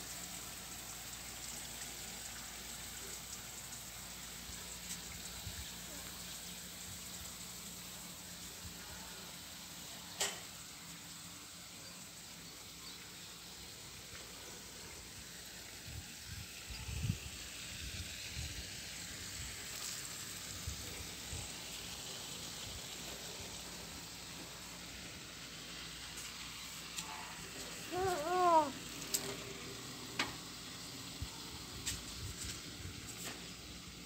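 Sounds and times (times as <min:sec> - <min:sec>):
faint outdoor hiss: 0:00.0 - 0:34.0.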